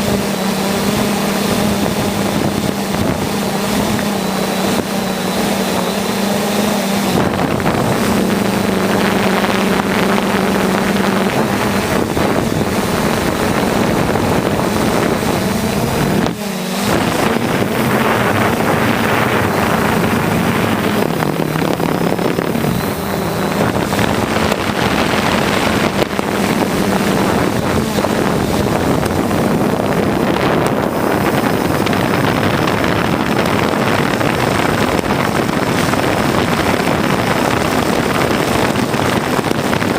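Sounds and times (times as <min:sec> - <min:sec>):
drone propellers humming: 0:00.0 - 0:39.9
rushing air noise: 0:00.0 - 0:39.9.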